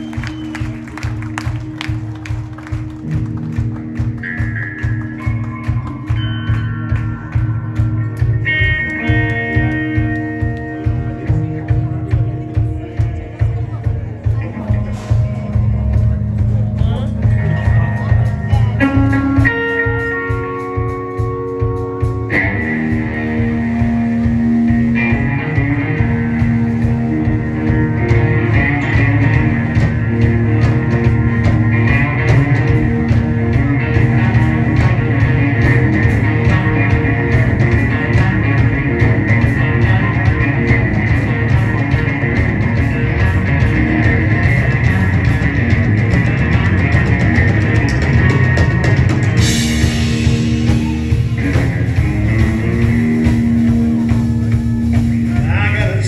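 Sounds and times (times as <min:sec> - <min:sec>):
electric guitar solo: 0:00.0 - 0:12.4, 0:17.2 - 0:56.0
bass and drums: 0:00.0 - 0:56.0.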